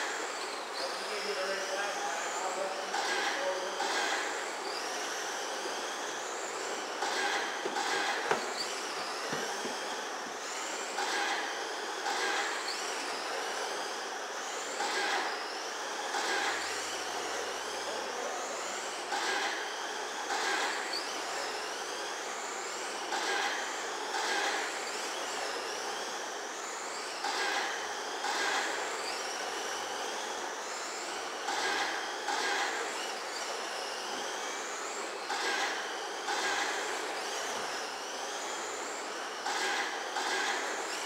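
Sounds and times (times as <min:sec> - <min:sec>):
electric motors whining: 0:00.0 - 0:41.0.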